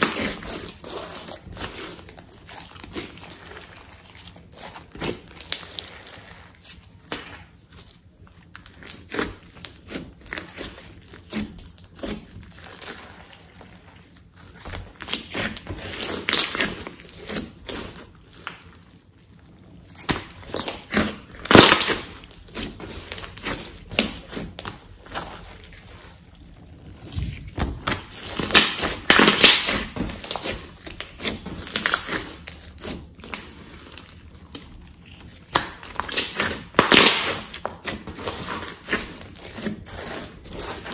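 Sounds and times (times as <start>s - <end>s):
slime squelching by hand: 0.0s - 40.9s.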